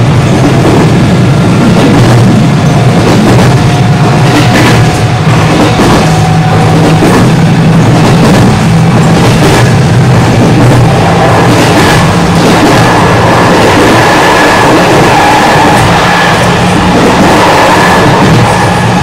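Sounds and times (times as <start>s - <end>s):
train motors and wheels humming: 0.0s - 19.0s.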